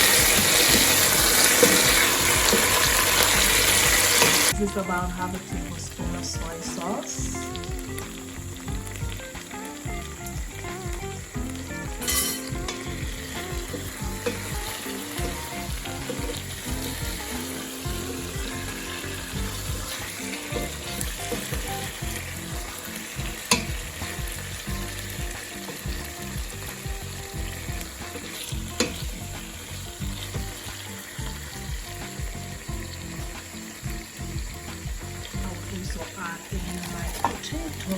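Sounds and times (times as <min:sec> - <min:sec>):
chicken sizzling in a pan: 0:00.0 - 0:37.9.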